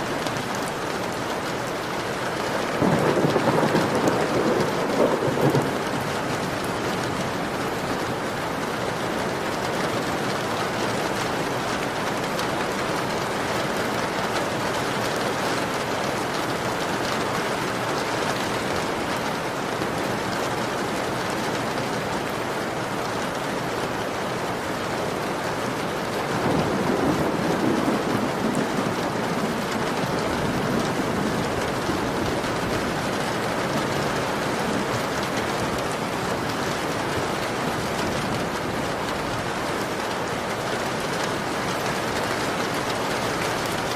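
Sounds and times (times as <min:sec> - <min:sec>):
heavy rain on a window pane: 0:00.0 - 0:43.9.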